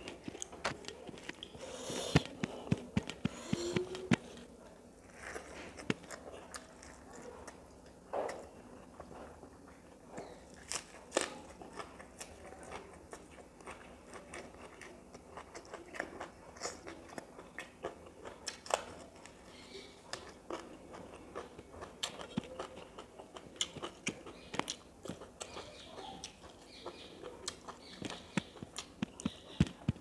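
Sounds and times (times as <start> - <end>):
person chewing with mouth full: 0.0 - 30.0.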